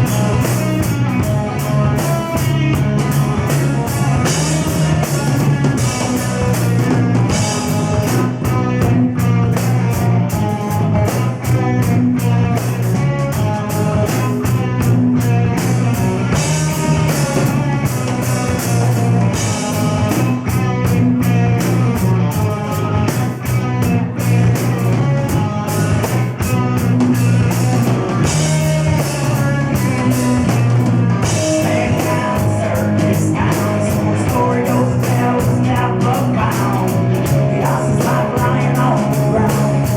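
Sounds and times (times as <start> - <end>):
drum kit beat: 0.0 - 39.9
electric guitar: 0.0 - 39.9
rock band playing live: 0.0 - 39.9.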